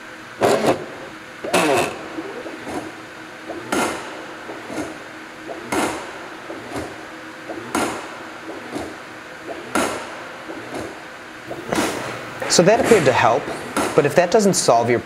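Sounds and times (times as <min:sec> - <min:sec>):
loud mechanical knock: 0:01.4 - 0:14.3.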